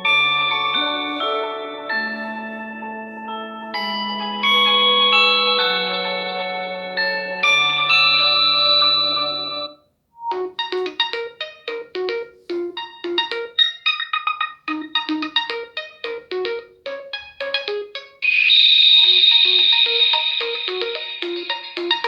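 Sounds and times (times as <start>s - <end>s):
repeating ringtone melody: 0.0s - 22.0s
ringtone held chord: 0.0s - 22.0s.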